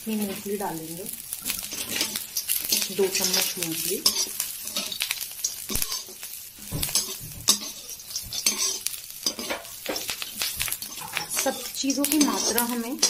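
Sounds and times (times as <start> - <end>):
peanuts sizzling in oil: 0.0 - 13.0
spatula scraping a pan: 1.5 - 13.0.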